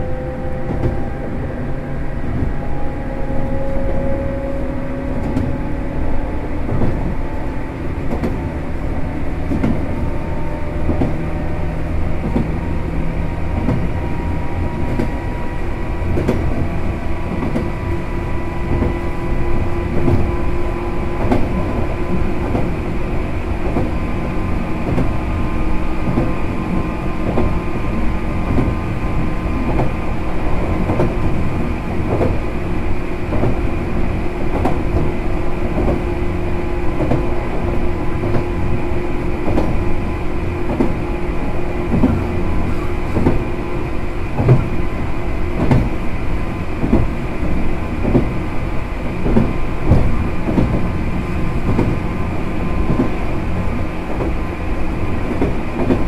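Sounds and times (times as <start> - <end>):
train motor and gear hum: 0.0 - 56.0
train rumble: 0.0 - 56.0.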